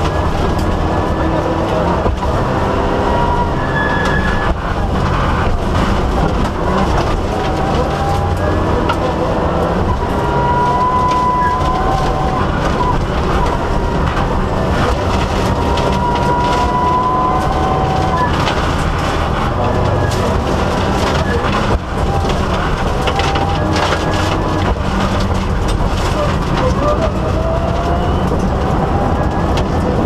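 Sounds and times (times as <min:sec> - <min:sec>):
car engine running under load: 0:00.0 - 0:30.0
road noise: 0:00.0 - 0:30.0.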